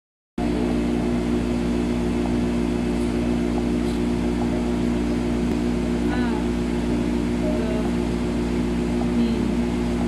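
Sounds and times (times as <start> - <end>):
refrigeration machinery humming: 0.4 - 10.0.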